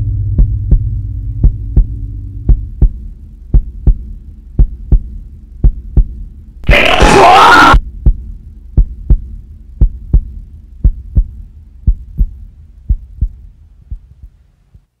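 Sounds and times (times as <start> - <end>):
heartbeat thumps: 0.0 - 6.3, 7.8 - 14.9
low hum: 0.0 - 15.0.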